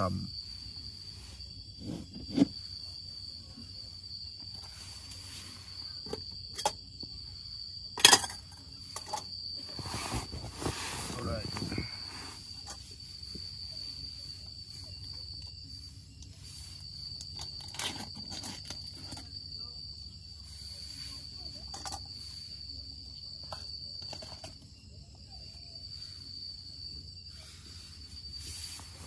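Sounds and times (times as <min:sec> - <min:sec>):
cricket trilling: 0:00.0 - 0:29.0.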